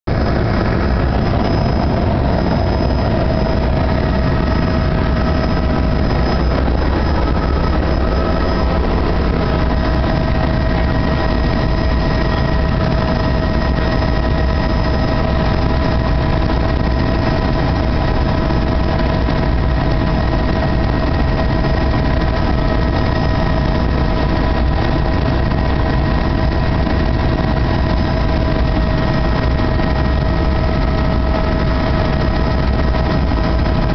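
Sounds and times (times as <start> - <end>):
helicopter engine and rotors: 0.0 - 33.9.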